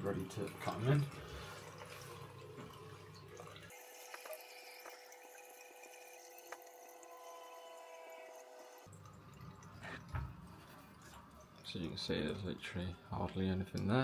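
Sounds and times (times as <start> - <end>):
sharp water drips: 0.0 - 7.1, 8.3 - 14.0
water trickling from taps: 0.0 - 7.3, 8.3 - 14.0.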